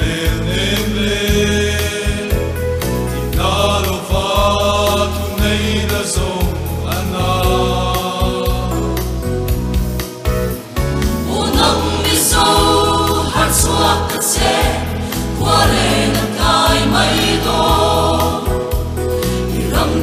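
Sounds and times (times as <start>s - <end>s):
mixed choir singing in harmony: 0.0s - 9.6s, 11.1s - 20.0s.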